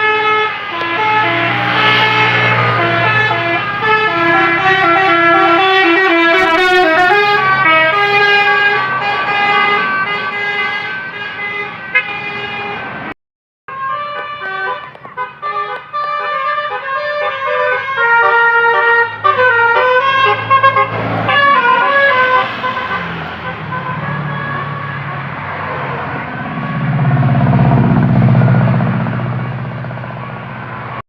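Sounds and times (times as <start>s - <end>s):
bus air horn playing a melody: 0.0s - 13.1s, 13.7s - 25.5s.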